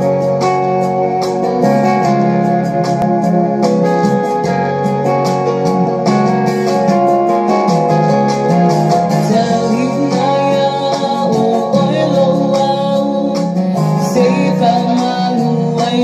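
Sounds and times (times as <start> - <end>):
keyboard and guitar music: 0.0 - 16.0.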